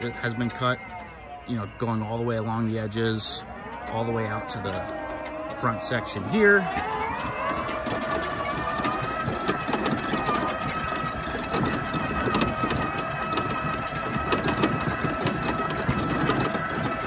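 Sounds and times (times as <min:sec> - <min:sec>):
electric mower whine: 0:00.0 - 0:17.0
rattling and clicking: 0:03.2 - 0:17.0.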